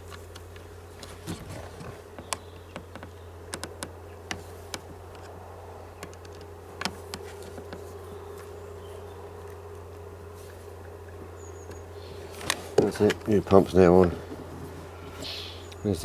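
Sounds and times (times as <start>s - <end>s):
faint buzz: 0.0s - 16.0s
low hum: 0.0s - 16.0s.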